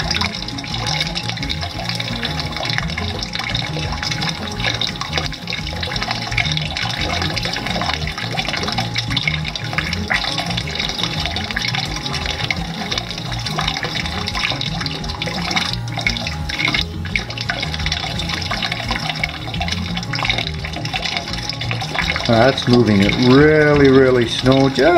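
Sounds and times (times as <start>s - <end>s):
water running down a plastic sluice: 0.0s - 24.9s
water splashing into a bucket: 0.0s - 24.9s.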